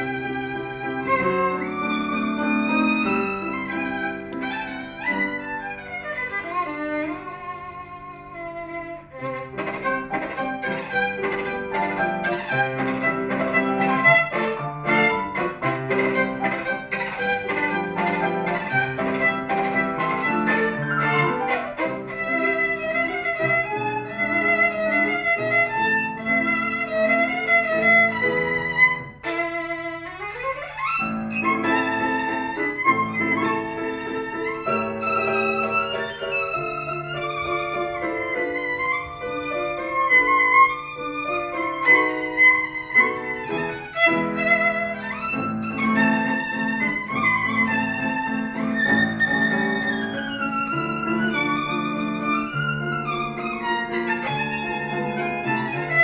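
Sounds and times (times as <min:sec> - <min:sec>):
piano accompaniment: 0:00.0 - 0:56.0
solo violin playing fast: 0:00.0 - 0:56.0.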